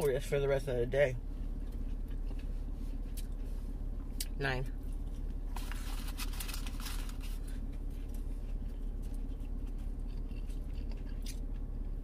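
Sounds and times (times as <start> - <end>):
steady low hum: 0.0 - 12.0
chewing food: 1.6 - 12.0.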